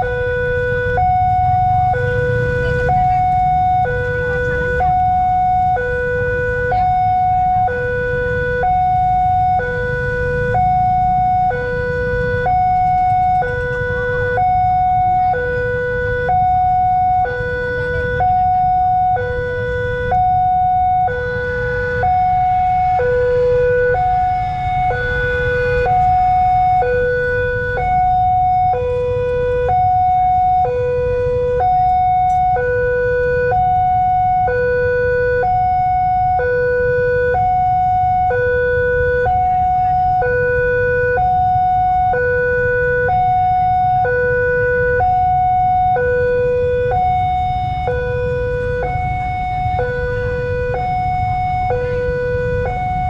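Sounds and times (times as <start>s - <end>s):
two-tone warning siren: 0.0s - 53.0s.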